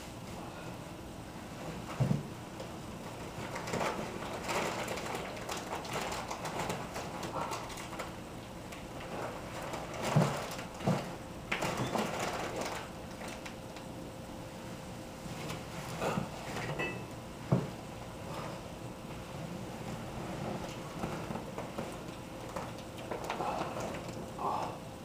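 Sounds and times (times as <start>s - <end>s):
rustling and shuffling: 1.4s - 13.6s, 15.1s - 16.8s, 17.4s - 24.4s.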